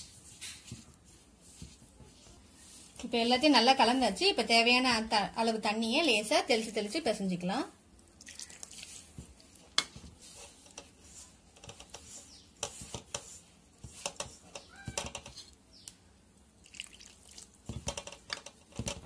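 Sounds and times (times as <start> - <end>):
hand kneading crumbly dough: 0.0 - 19.0.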